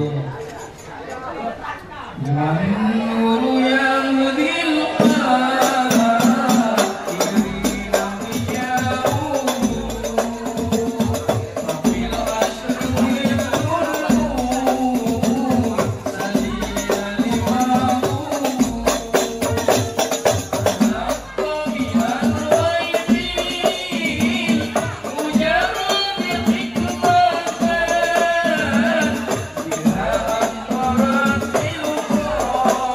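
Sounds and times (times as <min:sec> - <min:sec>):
person singing into a microphone: 0:02.0 - 0:32.9
frame drums beating: 0:05.0 - 0:32.9.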